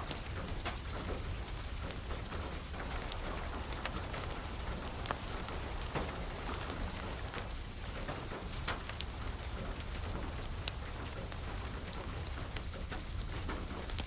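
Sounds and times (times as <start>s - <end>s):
fireplace fire crackling: 0.0s - 14.0s
steady rain falling: 0.0s - 14.0s.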